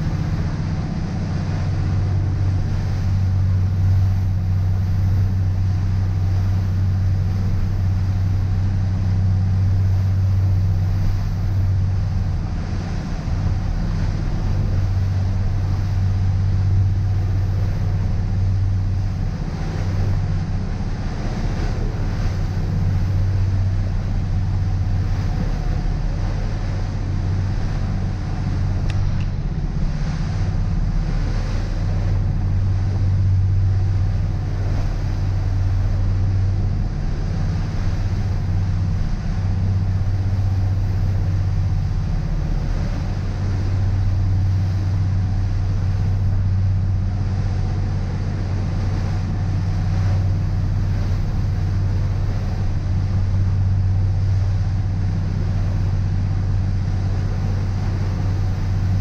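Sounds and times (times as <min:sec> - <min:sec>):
boat engine drone: 0:00.0 - 0:59.0
water and wind rushing over hull: 0:00.0 - 0:59.0.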